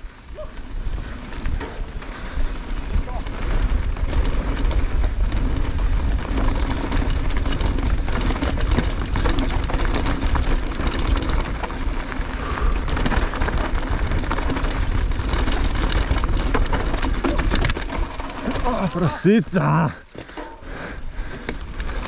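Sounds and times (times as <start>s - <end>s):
wind buffeting microphone: 0.0s - 19.1s
bike rattling over bumps: 0.0s - 22.0s
tyres on gravel: 0.0s - 22.0s.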